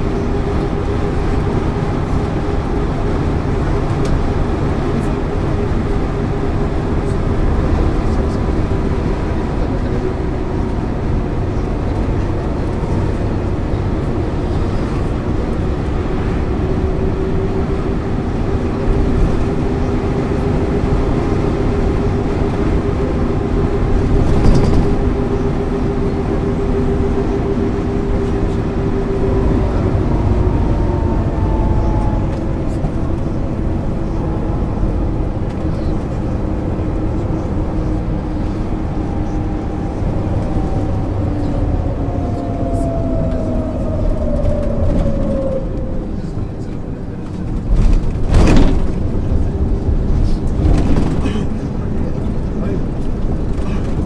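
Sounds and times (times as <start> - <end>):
bus engine and drivetrain drone: 0.0 - 54.0.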